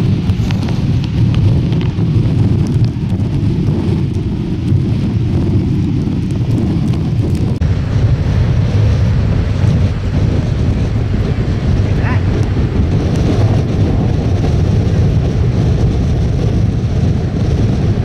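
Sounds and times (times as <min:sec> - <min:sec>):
wind blasting microphone: 0:00.0 - 0:18.0.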